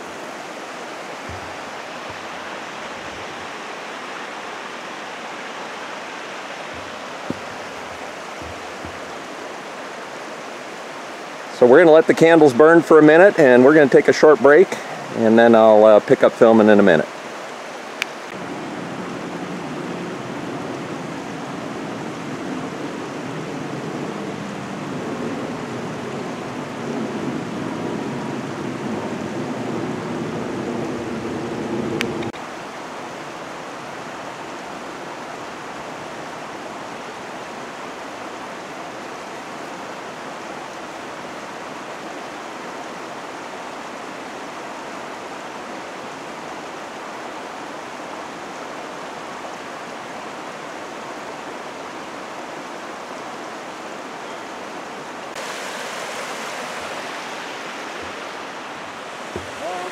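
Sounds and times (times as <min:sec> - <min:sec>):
creek rushing: 0:00.0 - 0:59.9.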